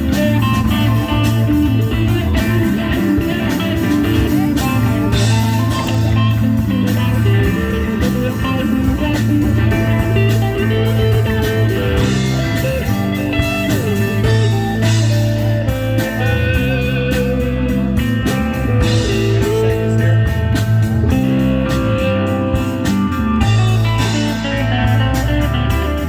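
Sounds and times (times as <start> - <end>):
bass line: 0.0 - 26.0
electric guitar: 0.0 - 26.0.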